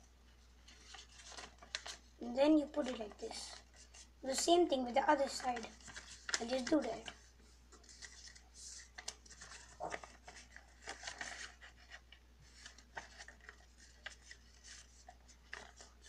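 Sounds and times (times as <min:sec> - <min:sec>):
paper rustling and crinkling: 0:00.6 - 0:16.0.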